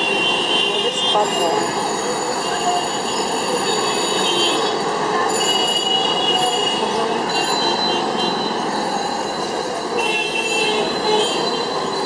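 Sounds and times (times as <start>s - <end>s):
crowd noise: 0.0s - 12.0s
traffic noise: 0.0s - 12.0s
high-pitched squeals and rings: 1.2s - 12.0s.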